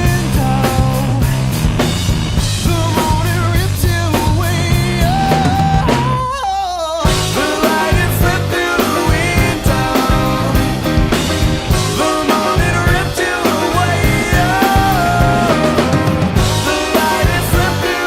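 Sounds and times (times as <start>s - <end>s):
person singing: 0.0s - 1.6s, 2.6s - 18.0s
rock band playing: 0.0s - 18.0s.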